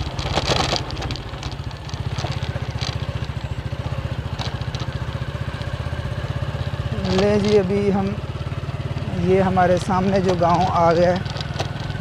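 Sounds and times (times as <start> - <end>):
small motorcycle engine chugging: 0.0 - 12.0.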